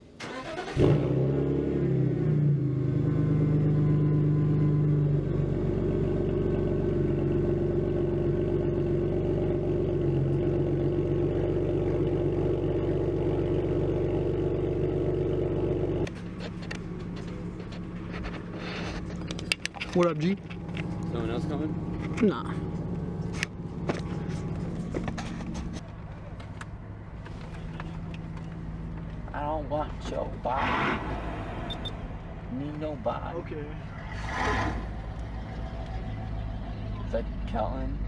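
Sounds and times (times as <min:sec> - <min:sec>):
car engine revving and idling: 0:00.0 - 0:38.0.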